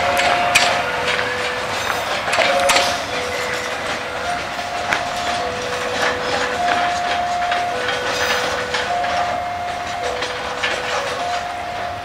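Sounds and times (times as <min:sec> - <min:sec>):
steel wheels squealing: 0:00.0 - 0:12.0
train wheels clacking and rumbling: 0:00.0 - 0:12.0.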